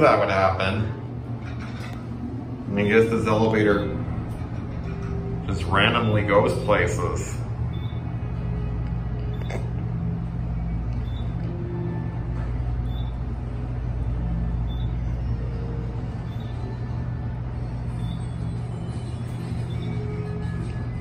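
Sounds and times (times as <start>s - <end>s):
elevator hum and rumble: 0.0s - 21.0s.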